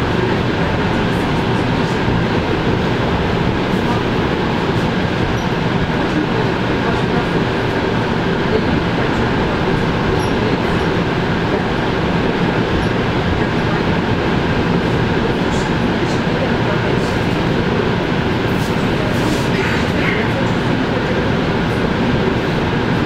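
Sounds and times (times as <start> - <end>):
train wheels on rails inside carriage: 0.0 - 23.0.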